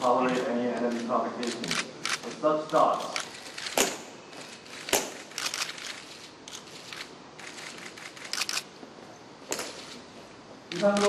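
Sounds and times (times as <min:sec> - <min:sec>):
camera shutters clicking: 0:00.0 - 0:08.7, 0:09.5 - 0:10.0, 0:10.7 - 0:11.0
faint room hiss: 0:00.0 - 0:11.0.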